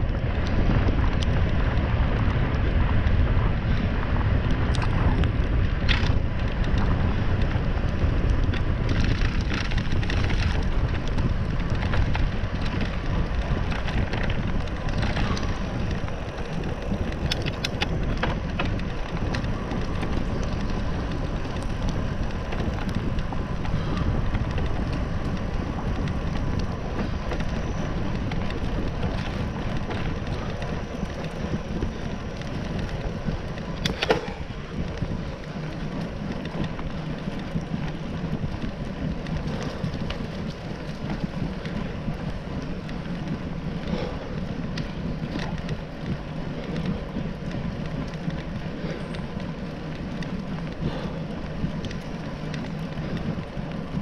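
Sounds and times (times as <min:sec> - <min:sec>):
tyres rolling on asphalt: 0:00.0 - 0:54.0
wind rush on microphone: 0:00.0 - 0:54.0
faint ticks: 0:00.1 - 0:54.0.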